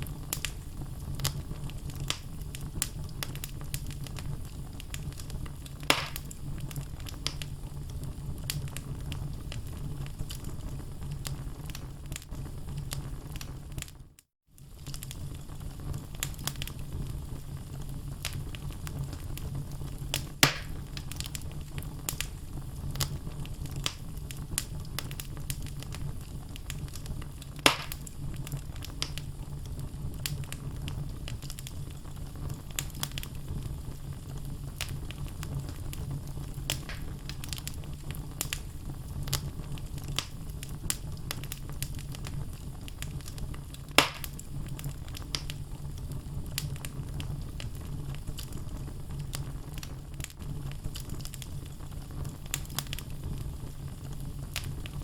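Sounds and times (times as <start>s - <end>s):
loud fire pops: 0.0s - 14.0s, 14.6s - 55.0s
wood fire crackling: 0.0s - 55.0s.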